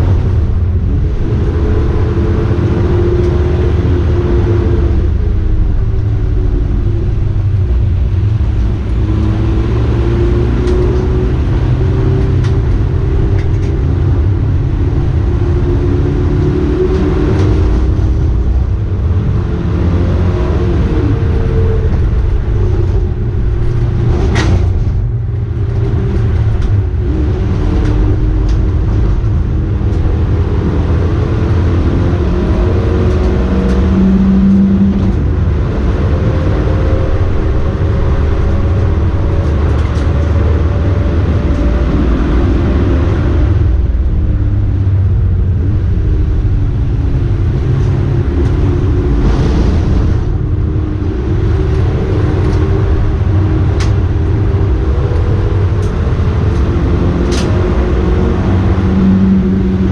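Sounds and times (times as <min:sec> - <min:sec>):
race car engine revving: 0:00.0 - 0:59.9
road and tyre rumble: 0:00.0 - 0:59.9.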